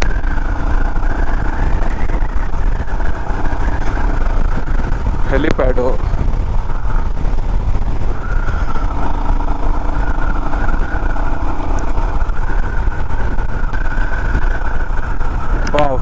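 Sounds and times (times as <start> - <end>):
motorcycle engine drone: 0.0 - 16.0
wind rumble on microphone: 0.0 - 16.0.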